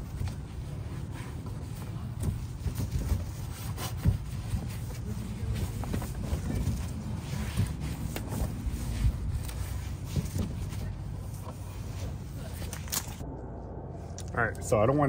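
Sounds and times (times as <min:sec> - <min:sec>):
towel rubbing on metal: 0:00.0 - 0:13.2
low steady rumble: 0:00.0 - 0:15.0.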